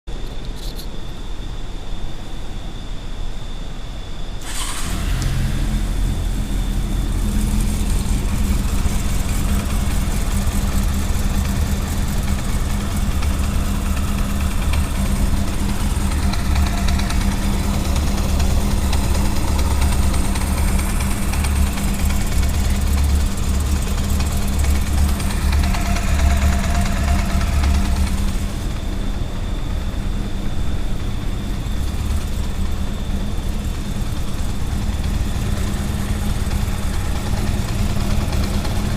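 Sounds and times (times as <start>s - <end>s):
motorcycle engine idling with rattle: 4.4s - 38.9s.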